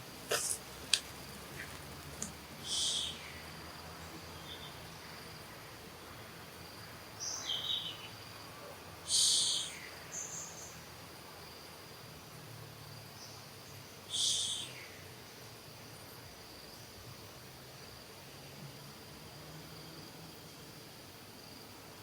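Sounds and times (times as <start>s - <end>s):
insect trill: 0.0s - 22.0s.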